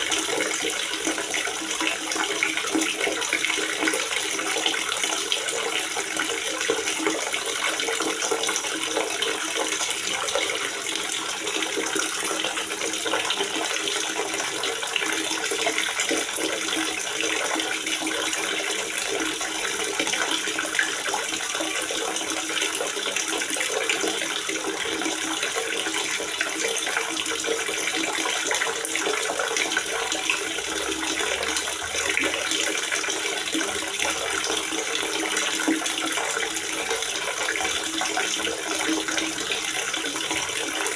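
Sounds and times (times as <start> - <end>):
water gurgling: 0.0 - 40.9.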